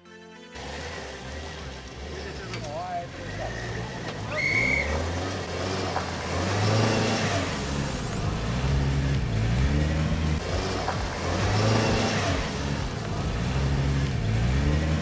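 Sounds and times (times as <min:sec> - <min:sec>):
off-road vehicle engine revving: 0:00.6 - 0:15.0.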